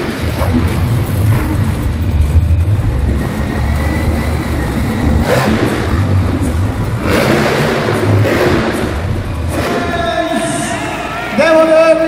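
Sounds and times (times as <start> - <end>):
monster truck engine revving: 0.0 - 11.4.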